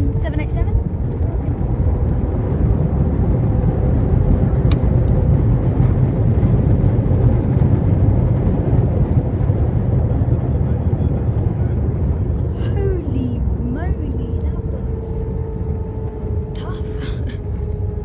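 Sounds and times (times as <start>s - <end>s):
low rumble of engines and wheels: 0.0s - 18.0s.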